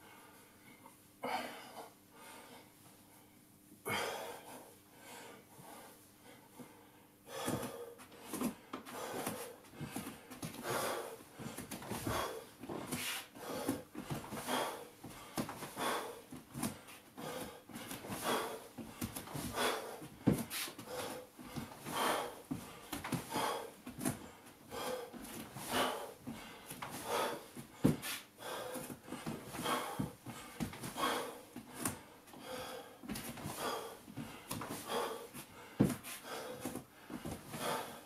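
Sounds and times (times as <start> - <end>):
man breathing hard: 0.0 - 38.0.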